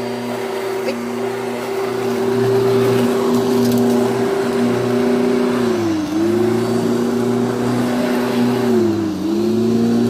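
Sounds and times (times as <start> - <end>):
electric lawn mower running: 0.0 - 10.0.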